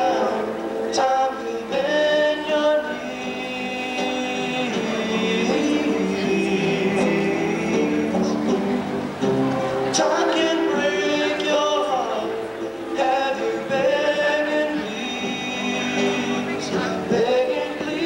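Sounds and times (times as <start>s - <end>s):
man singing into a microphone: 0.0s - 8.8s, 9.9s - 18.0s.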